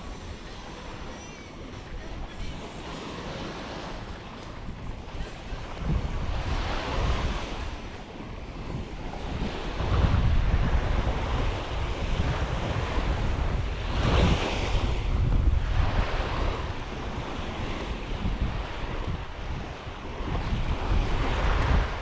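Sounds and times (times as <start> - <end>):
ocean surf breaking on sand: 0.0 - 22.0
wind buffeting microphone: 0.0 - 22.0.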